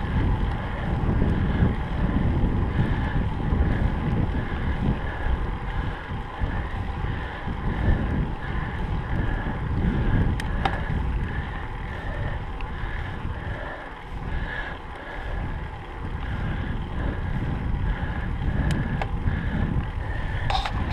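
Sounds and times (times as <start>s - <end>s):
wind rumbling on microphone: 0.0s - 20.9s.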